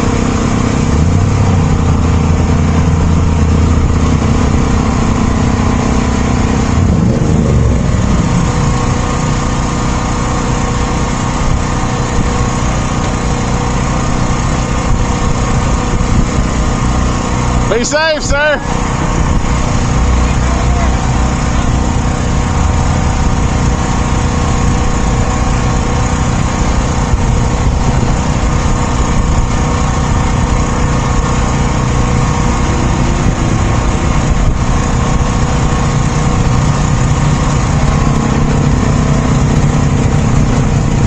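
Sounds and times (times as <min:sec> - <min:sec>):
second engine tone: 0:00.0 - 0:41.0
vehicle engine running close by: 0:00.0 - 0:41.0.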